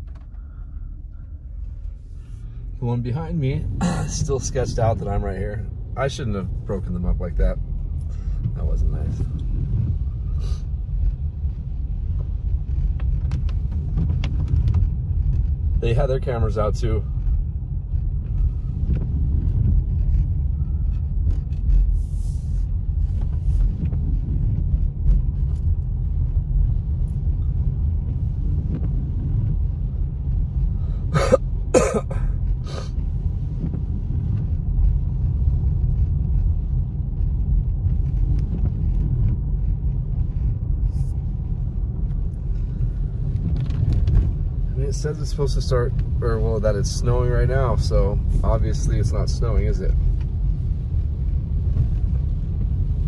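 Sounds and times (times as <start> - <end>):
car driving on wet road: 0.0 - 53.0.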